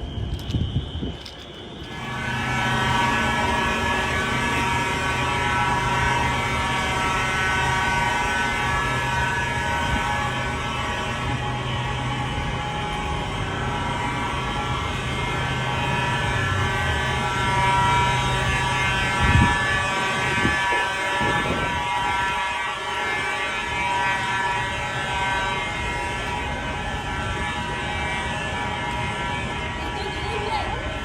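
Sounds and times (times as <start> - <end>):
fire alarm horns sounding: 0.0 - 31.0
low hum: 0.0 - 31.0.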